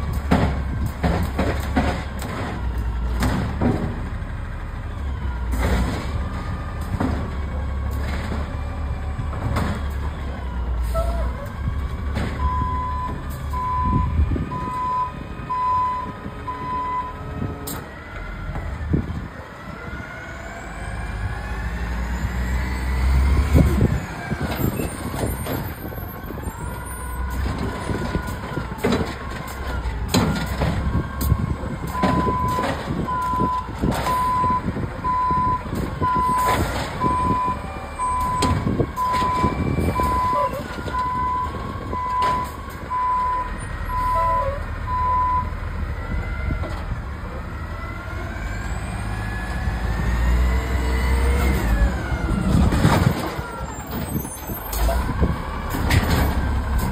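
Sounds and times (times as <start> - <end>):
garbage truck engine rumbling: 0.0 - 56.9.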